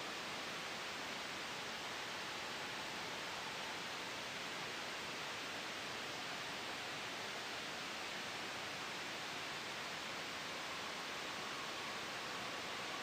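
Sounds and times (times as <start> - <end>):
gentle wind: 0.0 - 13.0
white noise hiss: 0.0 - 13.0.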